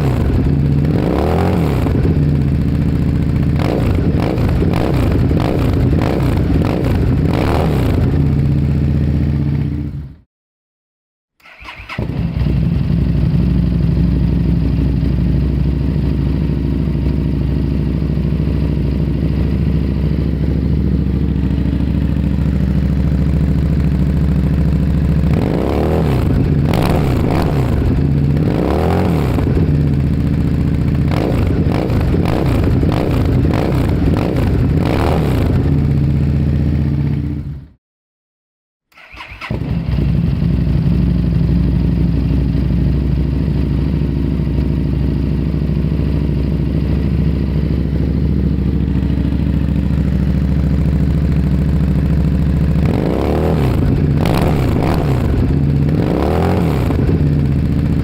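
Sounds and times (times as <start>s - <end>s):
loud exhaust engine idling and revving: 0.0s - 10.2s, 12.0s - 37.8s, 39.5s - 58.0s.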